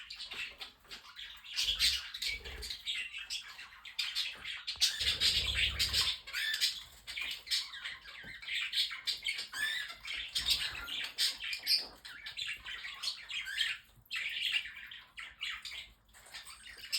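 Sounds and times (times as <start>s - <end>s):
budgerigars chattering and warbling: 0.0s - 16.9s
small parrots squawking: 0.0s - 16.9s.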